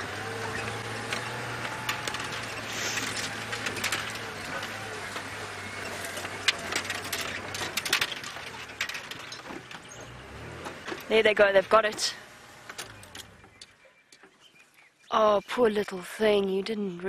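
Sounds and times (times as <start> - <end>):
sharp clicks and rattles: 0.0 - 14.3
vehicle engine running low: 0.0 - 14.4.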